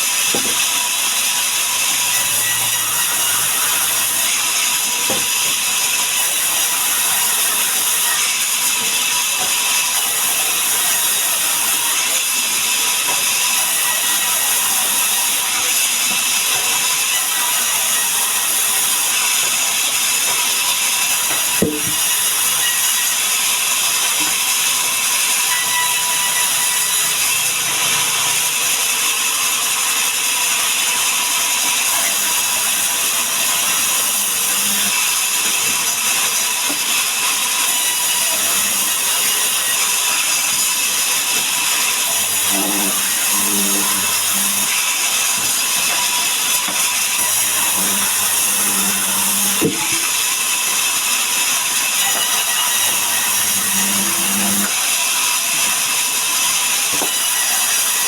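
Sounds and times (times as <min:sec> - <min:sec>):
sawmill saw cutting wood: 0:00.0 - 0:58.0.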